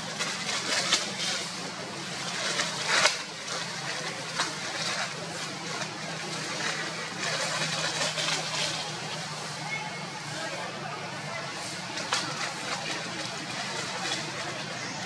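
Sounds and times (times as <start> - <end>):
dry leaves crackling: 0.0 - 15.0
faint voices: 0.0 - 15.0
low engine-like hum: 0.0 - 15.0
rustling crackling haze: 0.0 - 15.0.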